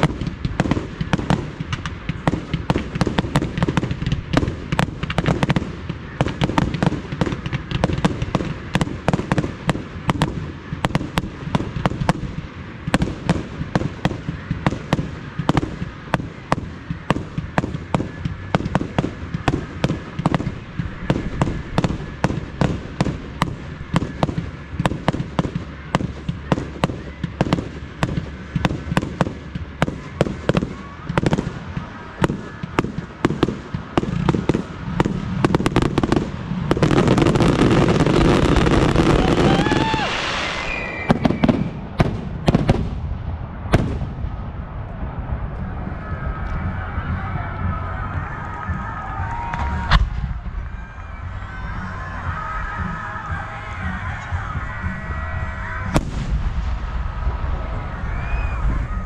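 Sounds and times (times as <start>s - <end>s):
fireworks bangs and cracks: 0.0s - 51.3s, 55.8s - 59.0s.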